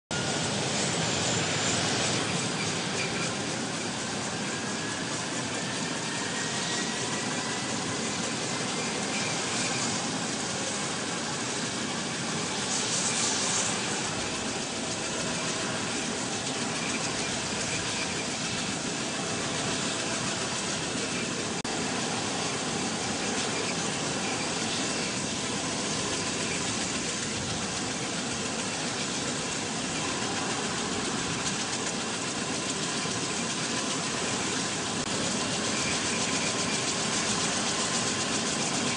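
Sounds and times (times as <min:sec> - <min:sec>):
engine running steadily: 0:00.1 - 0:38.9.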